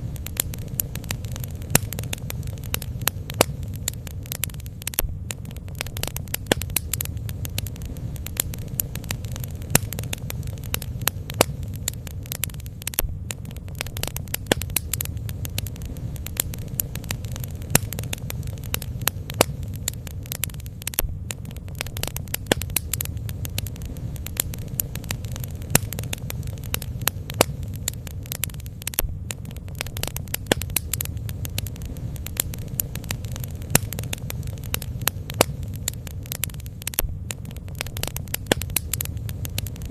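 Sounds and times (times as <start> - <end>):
bonfire flames rushing: 0.0 - 39.9
fire crackling and popping: 0.0 - 39.9.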